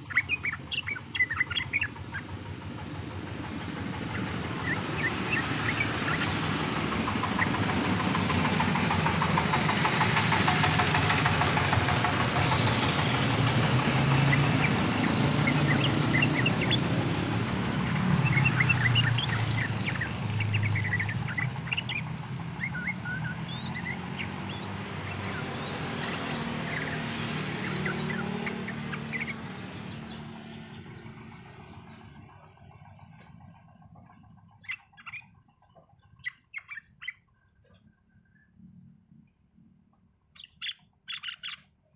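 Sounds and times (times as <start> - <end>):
bird chirping: 0.0 - 41.9
low engine-like drone: 0.0 - 41.9.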